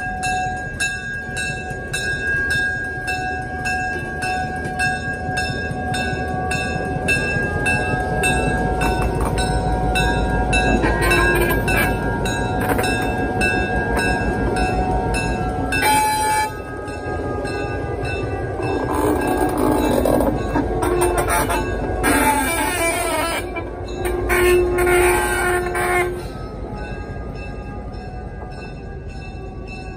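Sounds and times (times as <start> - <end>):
diesel locomotive engine rumbling: 0.0 - 29.9
locomotive bell ringing: 0.0 - 29.9.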